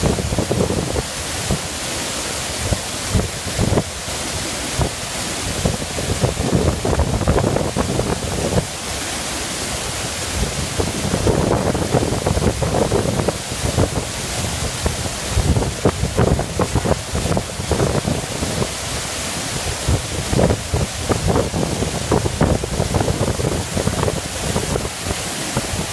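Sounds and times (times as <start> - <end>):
water rushing down cascade: 0.0 - 25.9.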